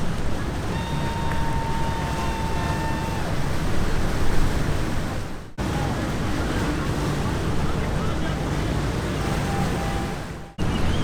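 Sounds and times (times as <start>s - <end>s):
boat motors running: 0.0s - 11.0s
water rushing: 0.0s - 11.0s
wind: 0.0s - 11.0s.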